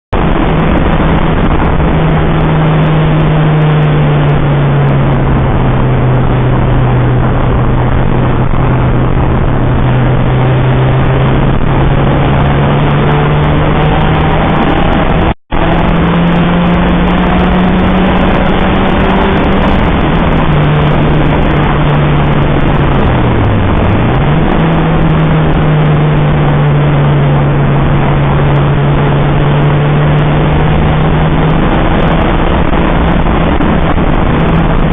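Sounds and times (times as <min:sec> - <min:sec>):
car engine running hard: 0:00.1 - 0:34.9
road and wind noise: 0:00.1 - 0:34.9.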